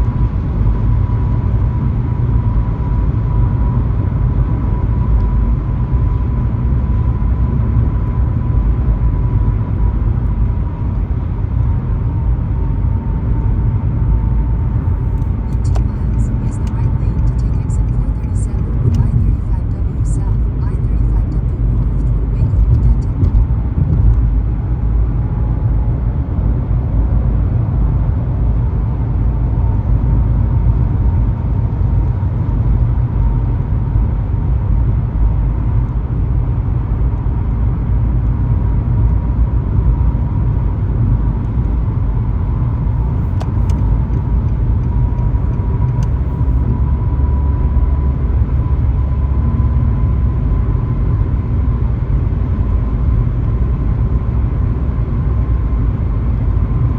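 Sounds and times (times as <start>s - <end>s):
road and engine rumble: 0.0s - 56.9s.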